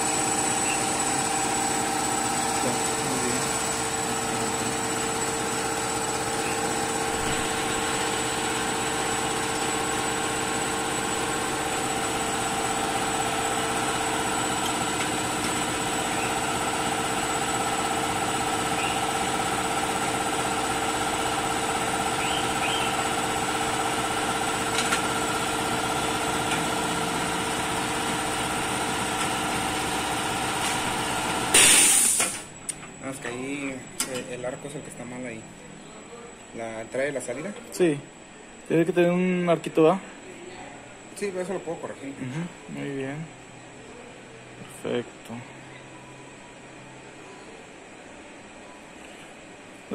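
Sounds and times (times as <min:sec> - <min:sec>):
machinery humming: 0:00.0 - 0:49.9.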